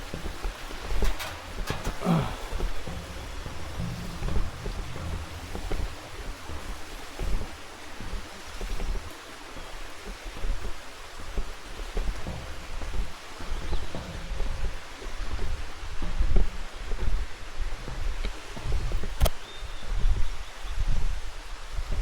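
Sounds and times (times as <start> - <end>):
water rushing: 0.0 - 19.0
wind buffeting microphone: 0.0 - 22.0.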